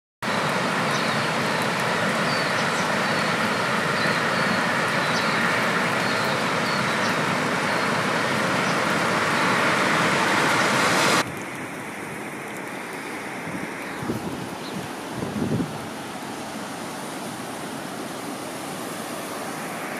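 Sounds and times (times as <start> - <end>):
flooded river roaring: 0.2 - 19.9.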